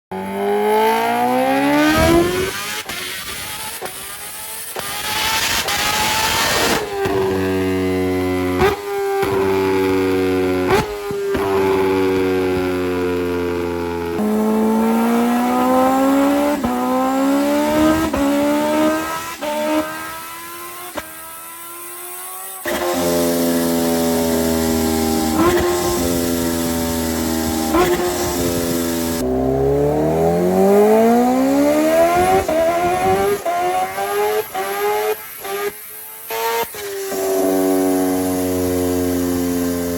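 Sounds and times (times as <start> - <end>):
motorcycle engine revving hard: 0.1 - 39.9.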